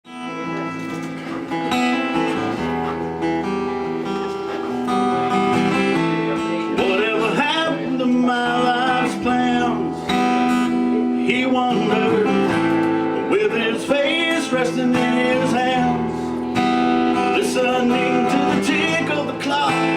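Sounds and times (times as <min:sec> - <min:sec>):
acoustic guitar strumming chords: 0:00.0 - 0:19.9
sliding melodic guitar line: 0:00.0 - 0:19.9.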